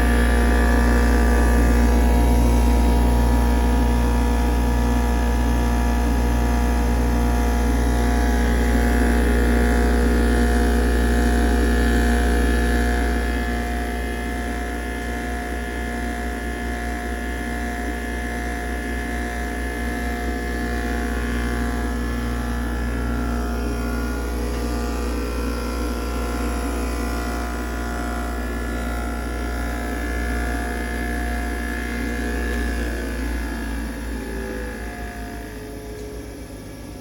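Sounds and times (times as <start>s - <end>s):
bench grinder motor humming: 0.0s - 37.0s.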